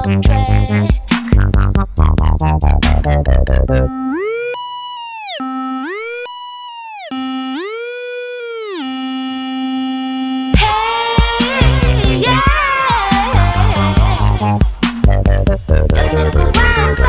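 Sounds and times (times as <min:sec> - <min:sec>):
electronic beat: 0:00.0 - 0:08.9, 0:09.5 - 0:17.0.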